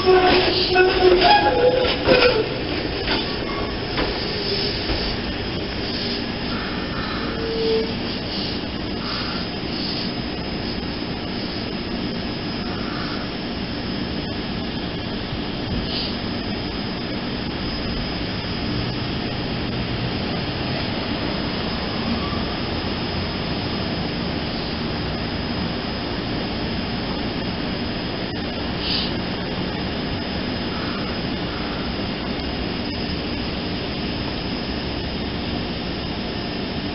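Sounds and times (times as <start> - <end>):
trolley equipment droning: 0.0 - 36.9.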